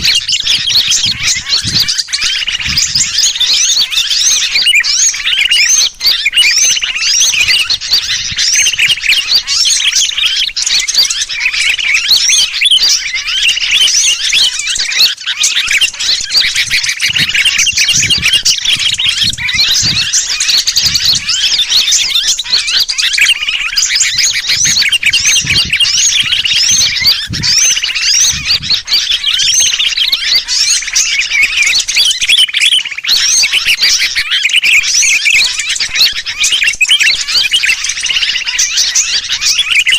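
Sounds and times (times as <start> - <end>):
bird distress calls: 0.0 - 39.9
small birds chirping: 0.0 - 39.9.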